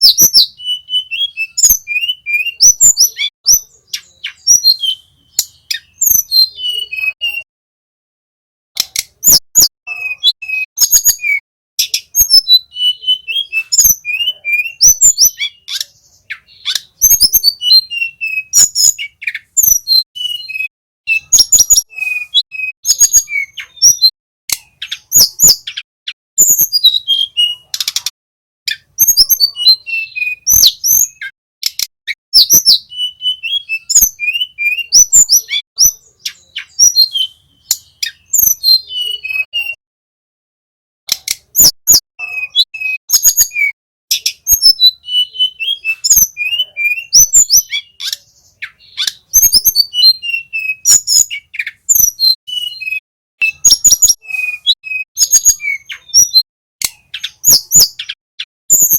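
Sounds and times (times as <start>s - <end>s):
songbird singing: 0.0s - 7.5s, 8.8s - 28.1s, 28.7s - 39.8s, 41.1s - 58.9s.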